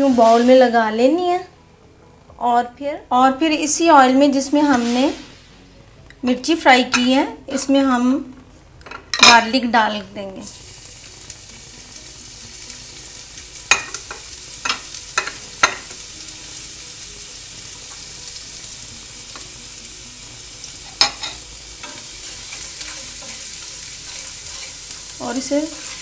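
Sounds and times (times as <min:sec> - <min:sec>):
garlic sizzling in hot oil: 0:00.0 - 0:01.3, 0:03.5 - 0:08.3, 0:09.2 - 0:26.0.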